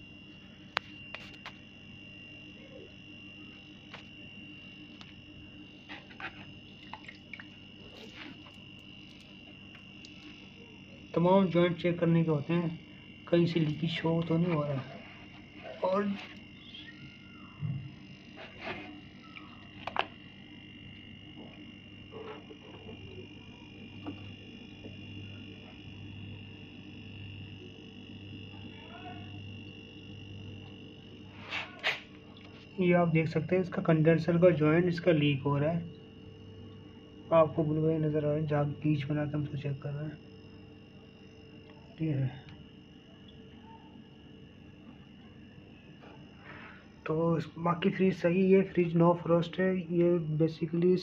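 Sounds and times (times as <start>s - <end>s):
refrigerator compressor hum and whine: 0.0s - 51.0s.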